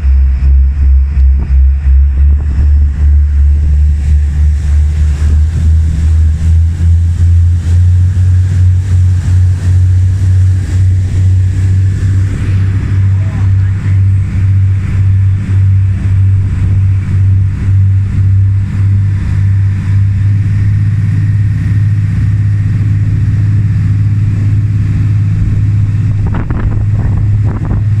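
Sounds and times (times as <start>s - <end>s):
ferry engine droning: 0.0s - 28.0s.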